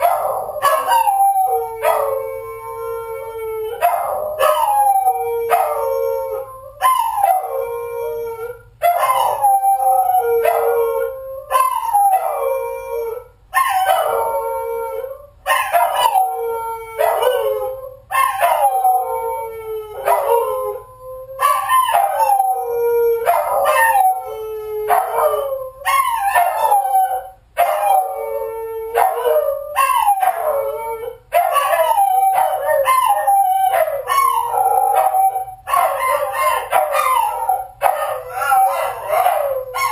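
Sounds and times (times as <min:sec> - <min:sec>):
dog howling: 0:00.0 - 0:39.9.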